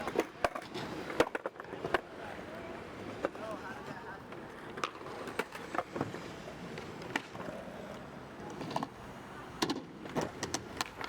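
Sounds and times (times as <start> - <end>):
skateboard clacks: 0.0 - 11.0
skateboard wheels rolling on pavement: 0.0 - 11.0.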